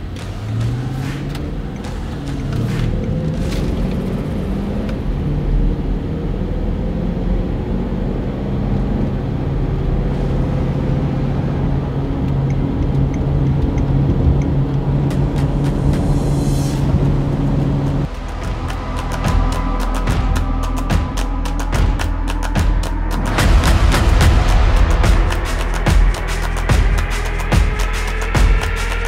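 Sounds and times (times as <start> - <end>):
engine drone: 0.0 - 29.0
road and tyre rumble: 0.0 - 29.0.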